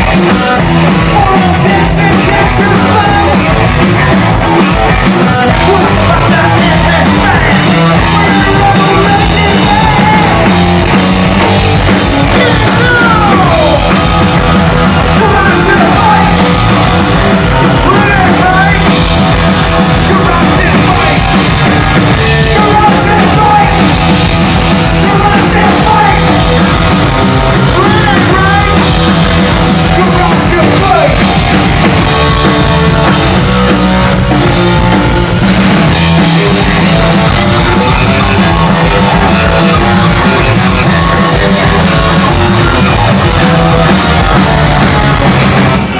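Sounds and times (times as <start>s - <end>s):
person singing: 0.0s - 45.9s
rock band playing live: 0.0s - 45.9s.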